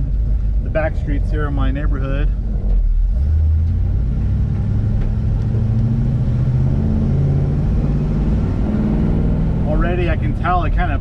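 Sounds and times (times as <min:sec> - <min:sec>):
car engine pulling away: 0:00.0 - 0:11.0.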